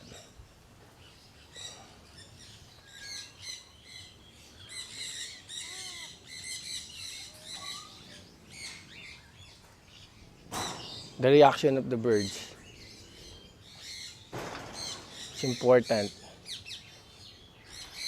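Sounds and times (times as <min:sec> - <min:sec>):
birds squawking: 0:01.5 - 0:18.0.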